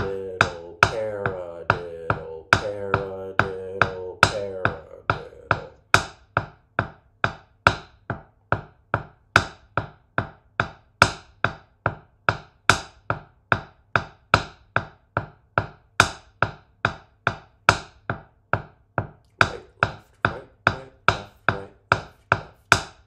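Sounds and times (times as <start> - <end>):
drumsticks tapping practice pad: 0.0 - 23.0.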